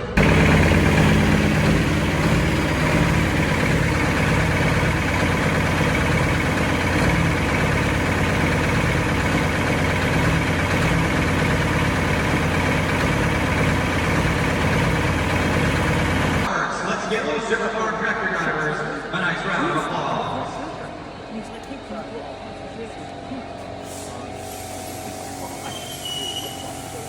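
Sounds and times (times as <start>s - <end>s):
tractor engine running steadily: 0.0s - 16.5s, 19.3s - 27.0s.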